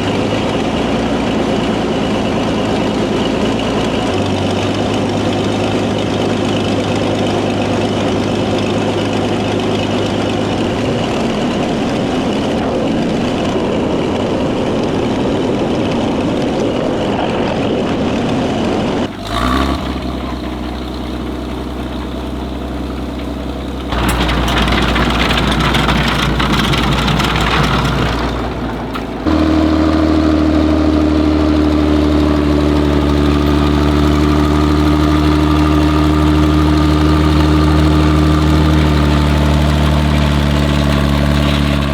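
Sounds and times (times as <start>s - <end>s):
tank engine idling: 0.0s - 16.6s, 18.9s - 41.9s.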